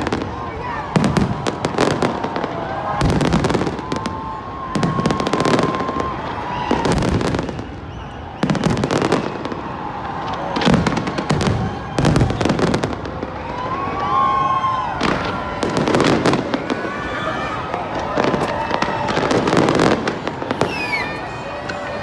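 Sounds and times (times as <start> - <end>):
deep fireworks booms: 0.0 - 22.0
fireworks bursting and crackling: 0.0 - 22.0.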